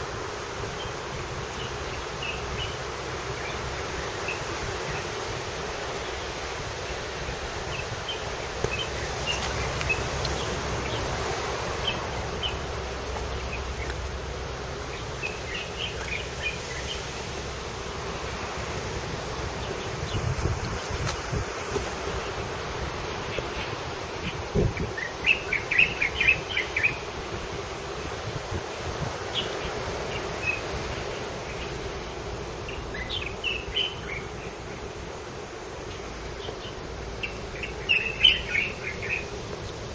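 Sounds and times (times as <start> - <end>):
steady background noise: 0.0 - 39.9
steady hiss and hum: 0.0 - 39.9
small birds chirping: 0.6 - 39.9.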